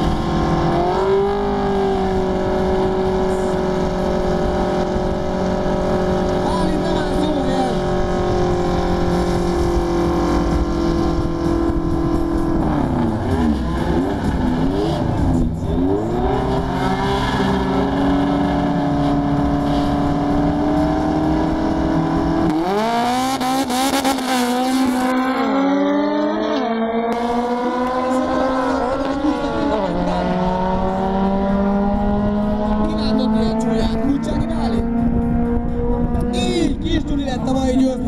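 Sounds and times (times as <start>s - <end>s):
cars accelerating through gears: 0.0s - 36.9s
race car engines revving: 0.0s - 38.0s.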